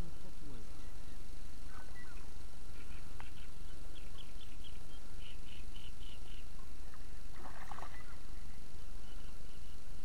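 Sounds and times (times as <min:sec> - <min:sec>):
buzzy rattling call: 0:00.7 - 0:09.8.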